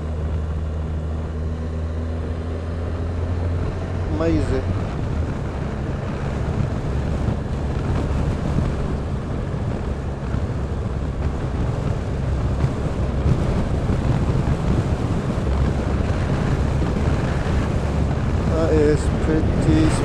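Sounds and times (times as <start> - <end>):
motorcycle engine low drone: 0.0 - 20.0
wind rushing over microphone: 0.0 - 20.0.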